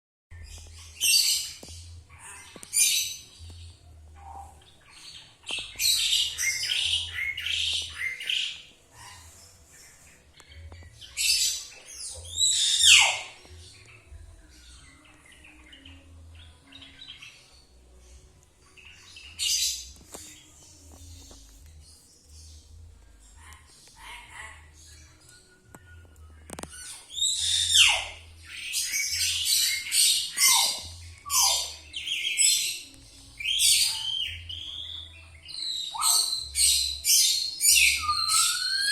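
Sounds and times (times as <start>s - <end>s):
songbirds chattering and whistling: 0.3s - 38.9s.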